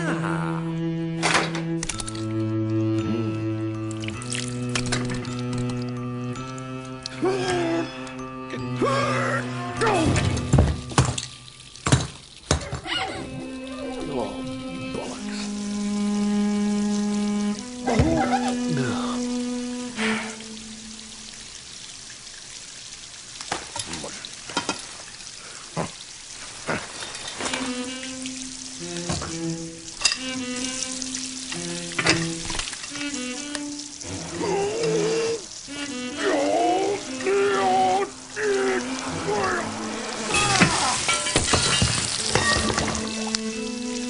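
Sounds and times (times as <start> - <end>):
water spraying from tap: 3.6 - 8.6, 9.8 - 44.0.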